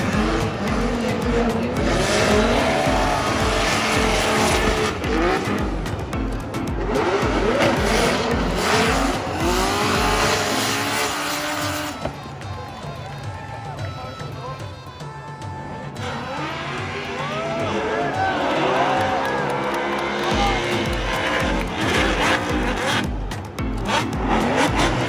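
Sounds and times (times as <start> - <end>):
car engines revving: 0.0 - 14.4, 15.6 - 25.0
pulsing music beat: 0.0 - 25.0.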